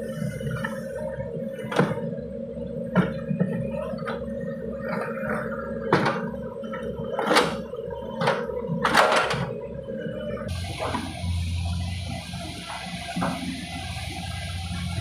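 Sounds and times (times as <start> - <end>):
mini excavator engine running: 0.0 - 15.0.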